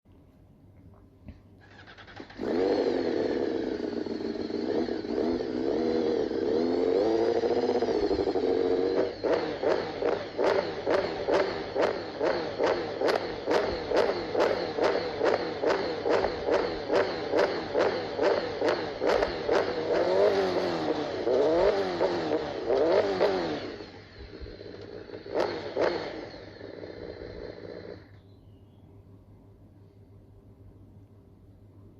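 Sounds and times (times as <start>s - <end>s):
motorcycle engine revving: 1.6s - 28.3s.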